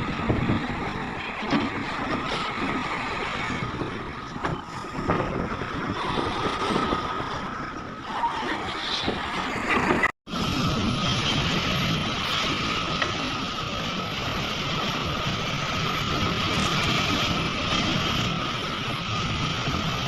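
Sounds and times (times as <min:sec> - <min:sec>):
excavator engine rumble: 0:00.0 - 0:20.0.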